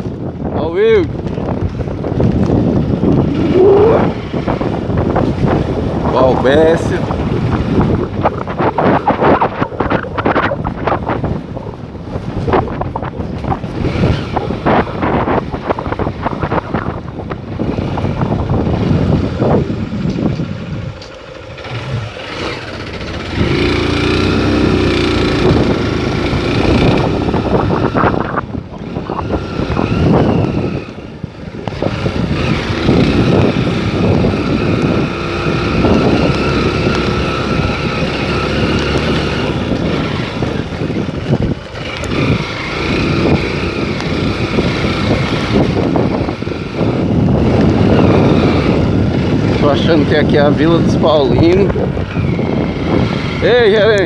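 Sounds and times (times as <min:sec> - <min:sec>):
vehicle engine running: 0:00.0 - 0:54.0
wind noise on microphone: 0:00.0 - 0:54.0.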